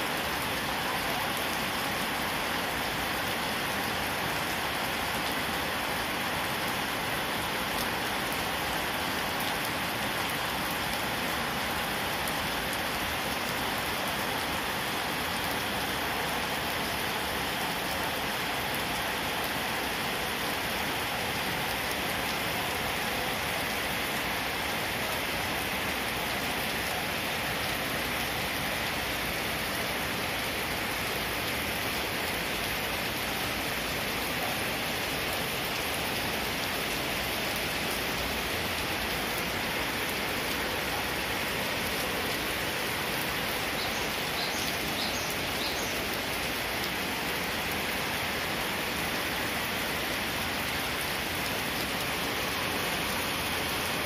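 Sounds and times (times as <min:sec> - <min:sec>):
rain on wet paving: 0:00.0 - 0:54.0.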